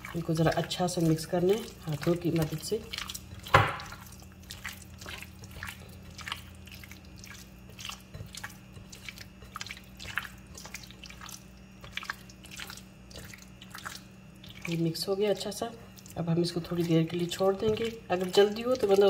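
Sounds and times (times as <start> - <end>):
hands squelching wet chicken: 0.0 - 19.0.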